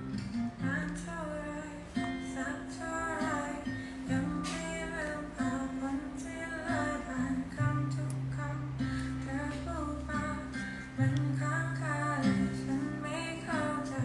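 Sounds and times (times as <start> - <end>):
strummed acoustic guitar: 0.0 - 14.0
woman singing softly: 0.4 - 14.0.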